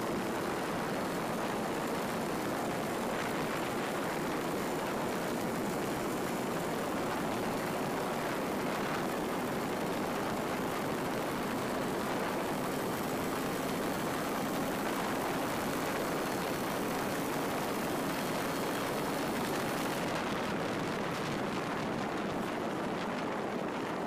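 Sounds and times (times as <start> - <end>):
two-stroke motorcycle engine running: 0.0 - 22.8
wind rushing over microphone: 0.0 - 24.0.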